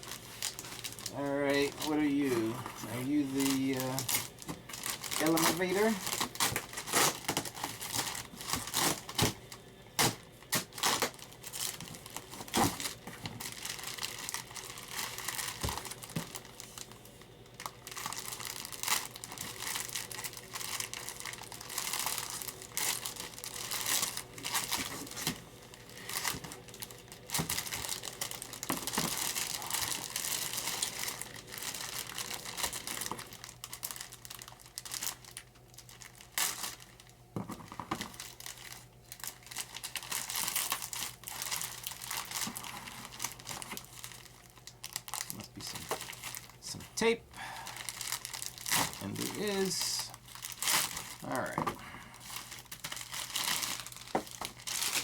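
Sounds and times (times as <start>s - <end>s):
packaging crinkling and tearing: 0.0s - 55.0s.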